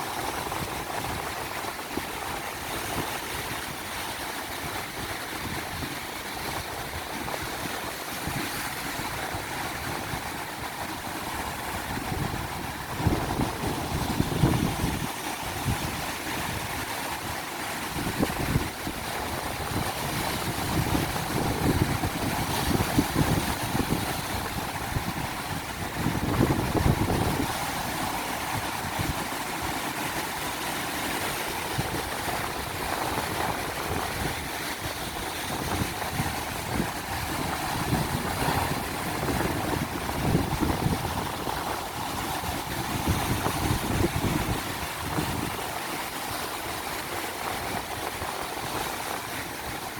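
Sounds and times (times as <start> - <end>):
ocean surf washing: 0.0 - 49.9
wind buffeting microphone: 0.0 - 49.9.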